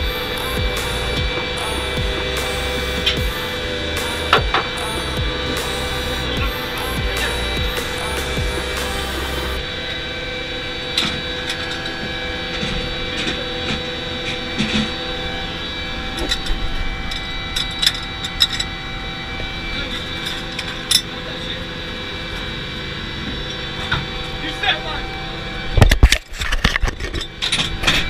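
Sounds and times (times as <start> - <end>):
machinery humming: 0.0 - 25.8.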